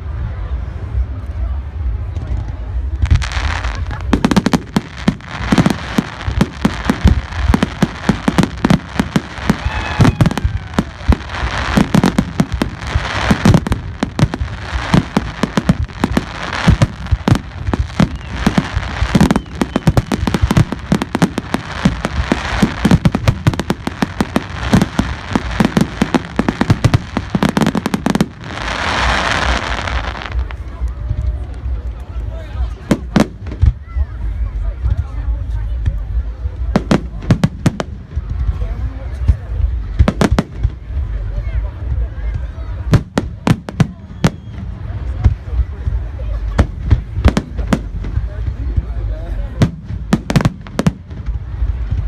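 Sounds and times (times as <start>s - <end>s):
fireworks bangs and crackling: 1.1s - 52.0s
deep fireworks thumps: 2.2s - 31.4s, 35.8s - 52.0s.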